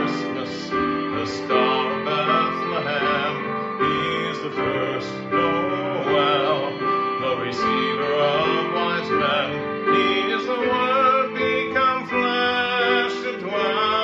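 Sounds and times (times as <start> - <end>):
electronic keyboard chords: 0.0 - 14.0
man singing: 0.0 - 14.0.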